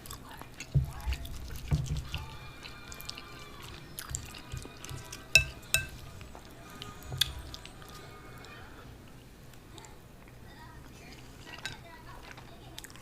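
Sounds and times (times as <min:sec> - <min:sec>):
wet chewing with mouth smacks: 0:00.0 - 0:13.0.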